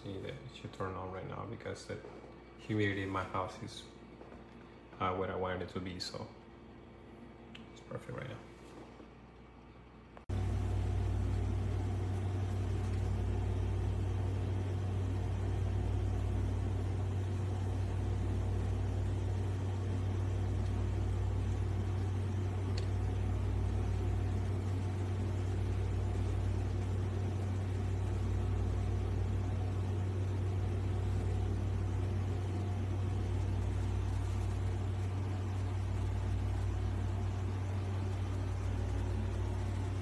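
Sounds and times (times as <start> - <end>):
humidifier humming: 0.0 - 40.0.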